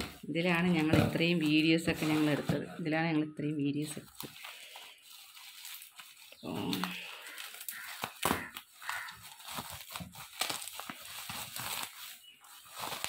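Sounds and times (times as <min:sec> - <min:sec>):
bubble wrap crinkling: 0:00.0 - 0:02.8, 0:03.8 - 0:13.0.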